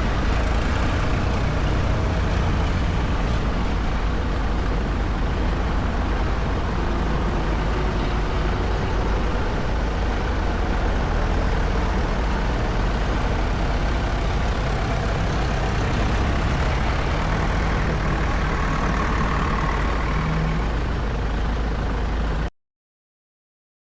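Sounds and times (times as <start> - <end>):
tractor engines rumbling: 0.0 - 22.5.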